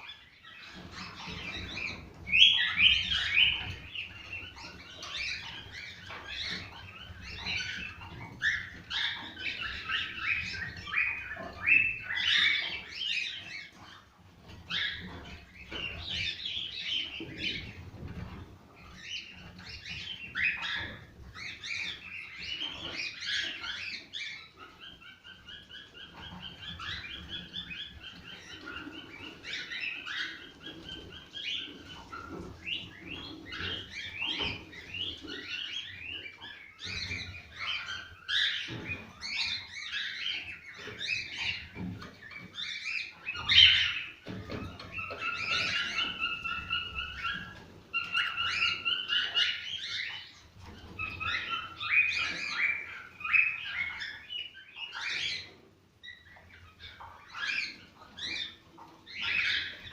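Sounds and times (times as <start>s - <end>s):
cockatiels singing and chirping: 0.0s - 59.9s.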